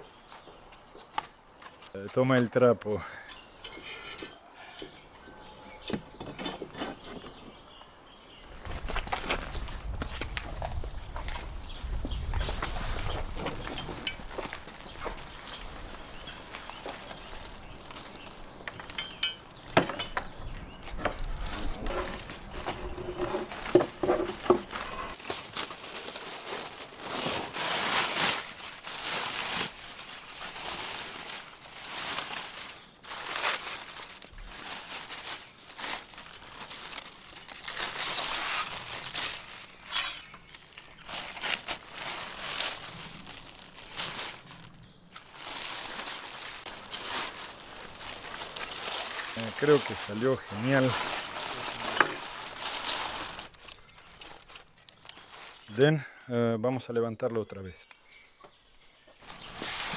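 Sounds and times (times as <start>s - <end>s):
crinkling and rustling: 8.5s - 55.8s, 59.1s - 59.9s.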